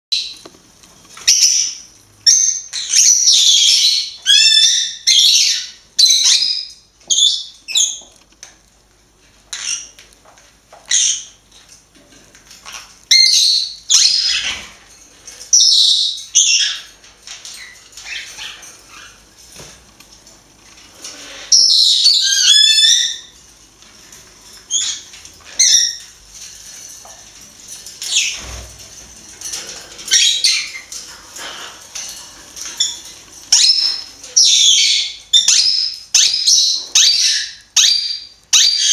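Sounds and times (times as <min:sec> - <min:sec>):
parrots chirping and squawking: 0:01.1 - 0:08.6, 0:09.2 - 0:38.9.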